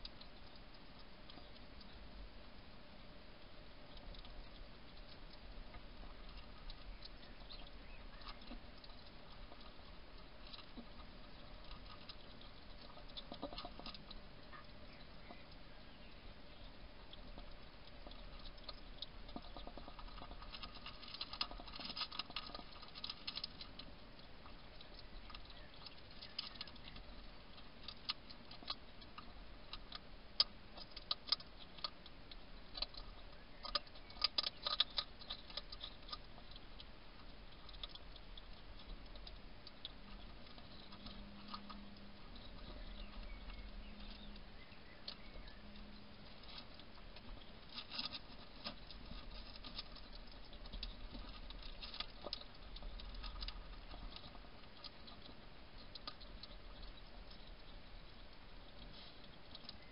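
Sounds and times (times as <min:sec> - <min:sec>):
hedgehog crunching dry food: 0:00.0 - 0:59.9.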